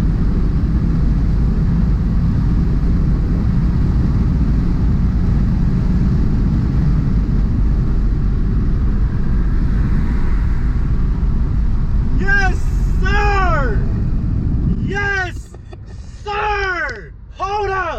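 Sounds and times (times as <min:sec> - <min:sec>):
car engine and road noise: 0:00.0 - 0:17.9.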